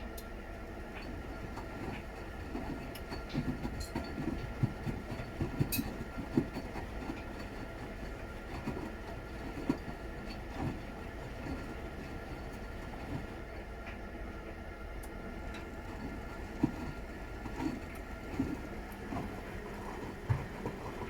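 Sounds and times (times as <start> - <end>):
washing machine drum humming: 0.0 - 21.0.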